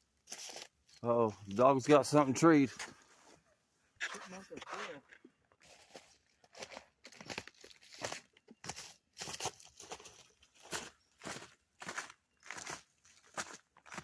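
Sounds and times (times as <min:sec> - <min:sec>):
footsteps crunching on icy ground: 0:00.2 - 0:03.3, 0:04.2 - 0:14.0.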